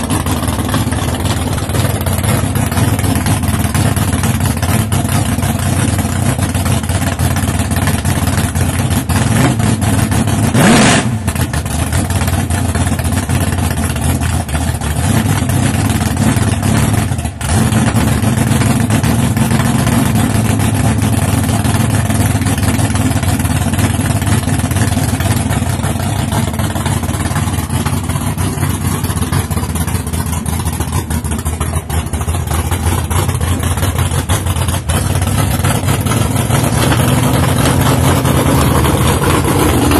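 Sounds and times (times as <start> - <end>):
drag race car engines running: 0.0 - 39.9.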